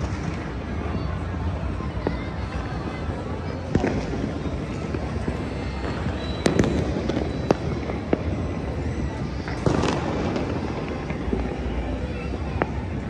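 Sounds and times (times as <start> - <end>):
distant fireworks rumble and crackle: 0.0 - 13.0
nearby firework bangs: 2.0 - 13.0.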